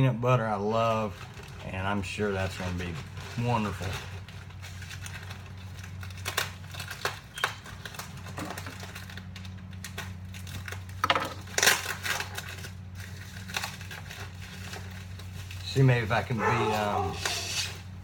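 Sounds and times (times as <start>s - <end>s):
packing material crinkling: 0.7s - 18.0s.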